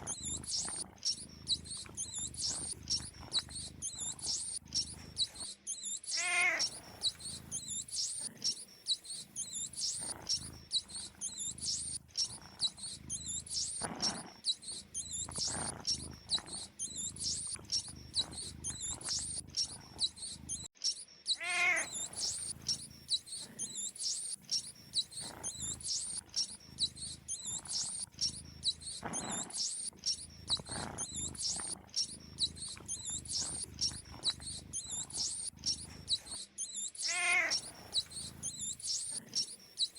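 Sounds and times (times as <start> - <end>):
mice squeaking: 0.0 - 39.9.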